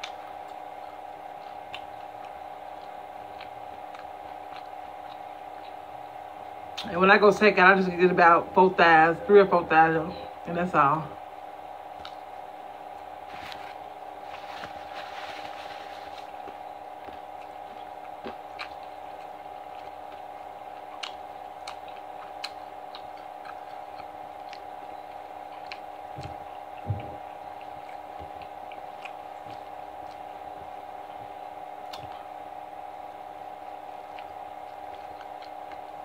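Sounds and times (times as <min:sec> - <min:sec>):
person chewing: 0:00.0 - 0:06.9, 0:11.9 - 0:36.0
steady hum: 0:00.0 - 0:36.0.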